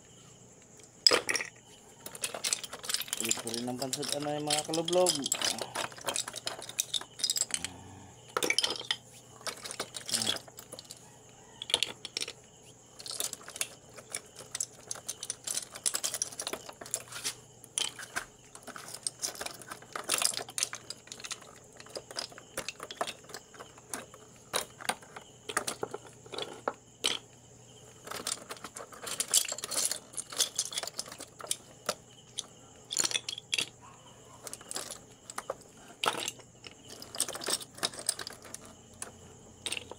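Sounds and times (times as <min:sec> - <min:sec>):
seashells clattering together: 0:00.7 - 0:27.3, 0:27.9 - 0:33.8, 0:34.4 - 0:39.9.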